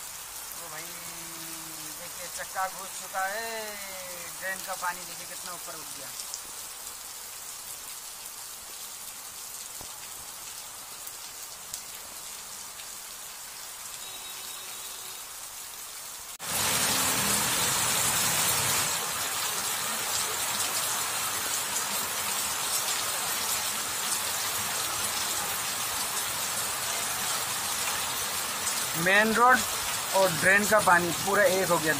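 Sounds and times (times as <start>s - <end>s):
heavy rain on flooded road: 0.0s - 31.9s.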